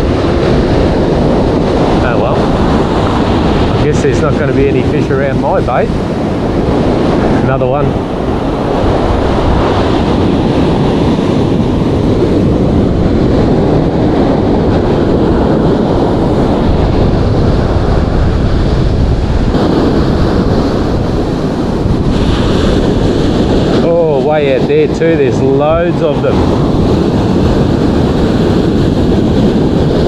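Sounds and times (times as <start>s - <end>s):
ocean surf washing onto beach: 0.0s - 30.0s
wind buffeting microphone: 0.0s - 30.0s.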